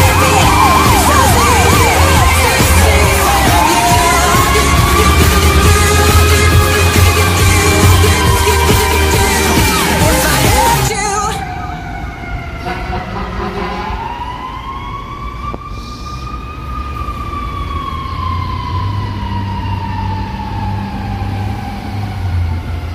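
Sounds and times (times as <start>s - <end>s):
fire engine siren wailing: 0.0s - 22.9s.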